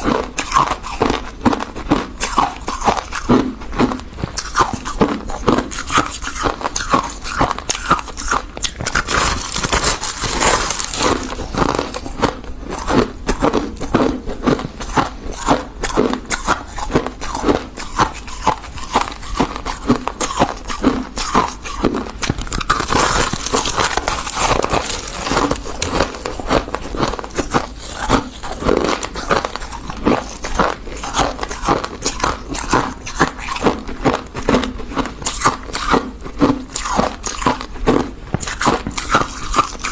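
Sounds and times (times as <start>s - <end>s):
crunching ice: 0.0s - 39.9s.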